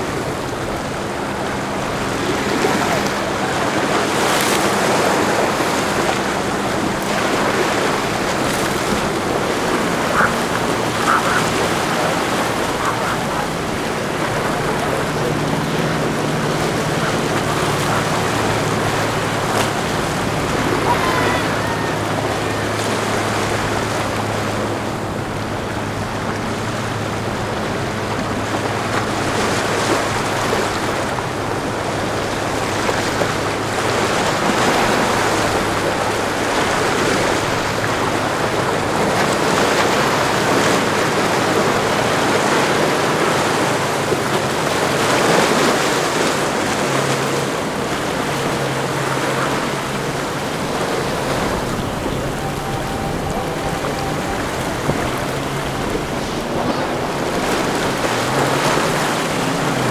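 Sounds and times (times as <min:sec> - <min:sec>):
outboard engines humming: 0:00.0 - 0:59.9
waves rushing and breaking: 0:00.0 - 0:59.9.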